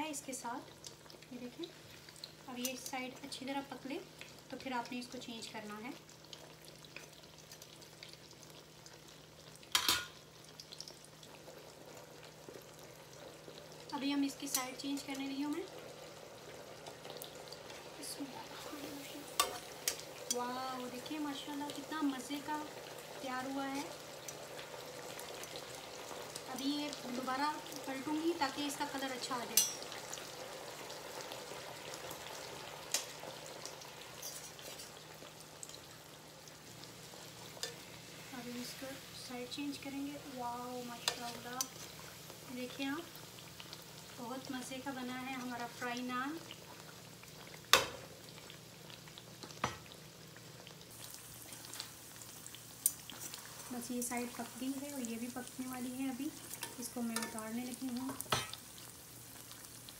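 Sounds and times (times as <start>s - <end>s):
bread frying in oil crackling: 0.0s - 59.9s.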